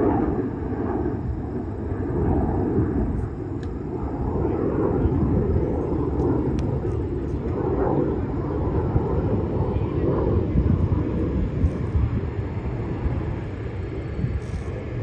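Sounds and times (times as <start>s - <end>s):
jets flying overhead: 0.0s - 15.0s.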